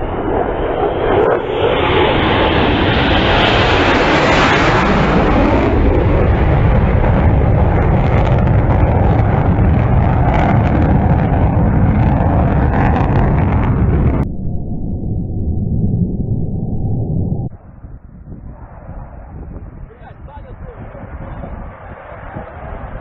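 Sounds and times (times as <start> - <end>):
jet aircraft roar: 0.0 - 23.0
wind buffeting microphone: 0.0 - 23.0.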